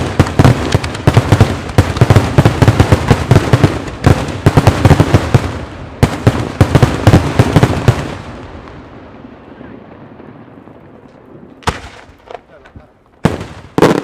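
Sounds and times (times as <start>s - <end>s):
firework bangs: 0.0s - 14.0s.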